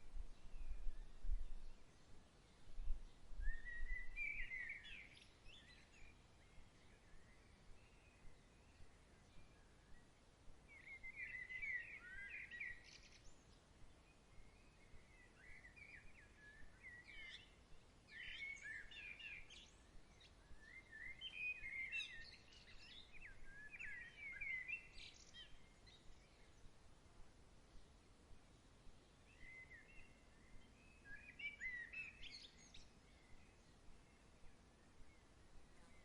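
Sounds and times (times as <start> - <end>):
faint outdoor hiss: 0.0 - 36.0.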